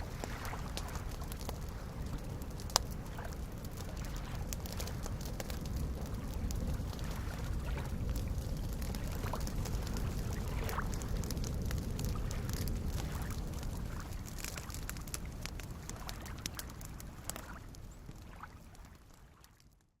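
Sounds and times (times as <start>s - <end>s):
lake waves lapping at shore: 0.0s - 19.6s
campfire crackling and popping: 0.0s - 19.9s.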